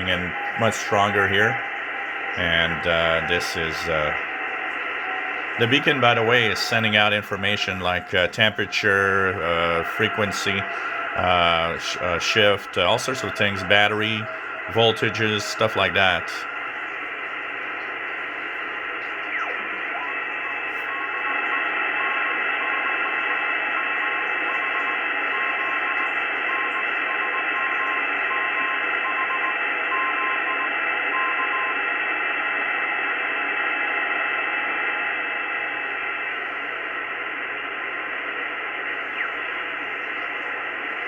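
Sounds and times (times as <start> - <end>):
receiver hiss: 0.0 - 41.0.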